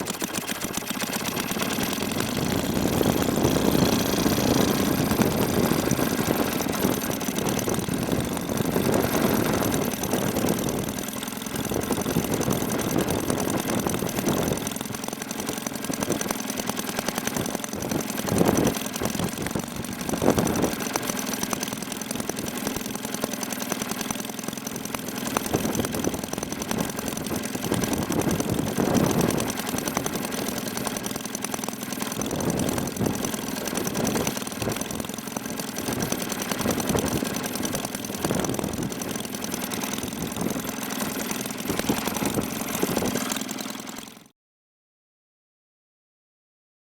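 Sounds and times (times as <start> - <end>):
two-stroke engine running: 0.0 - 44.3.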